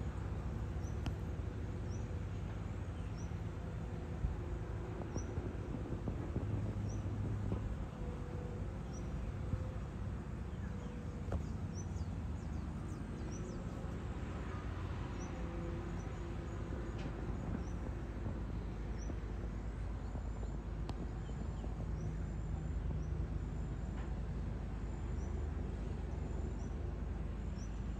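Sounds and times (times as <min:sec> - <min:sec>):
distant construction machinery rumble: 0:00.0 - 0:27.9.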